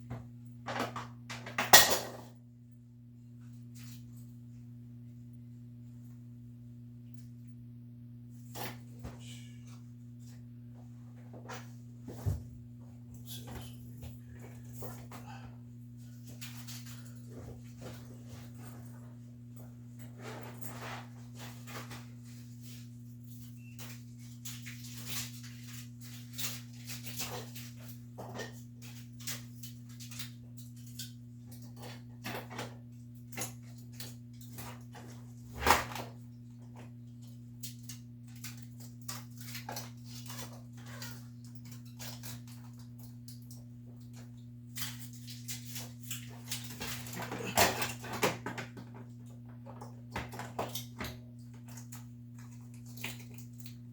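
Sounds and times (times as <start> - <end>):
low electrical hum: 0.0 - 53.9.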